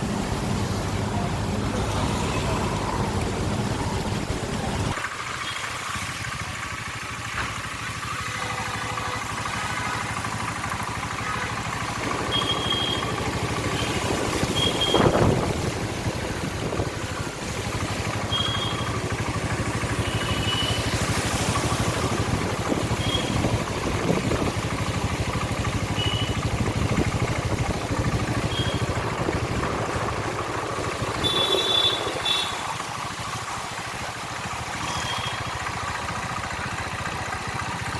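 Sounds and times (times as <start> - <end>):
traffic on a wet road: 0.0 - 37.9.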